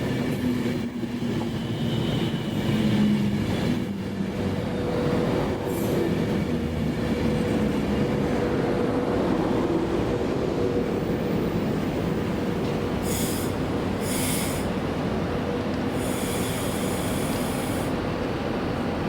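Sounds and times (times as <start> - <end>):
electric train rumble and hum: 0.0 - 19.0.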